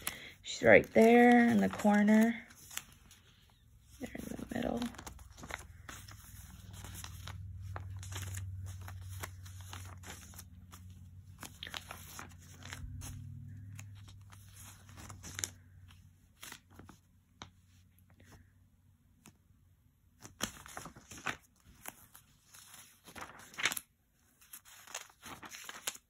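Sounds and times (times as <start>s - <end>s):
paper pages rustling: 0.0s - 18.5s, 20.1s - 26.0s.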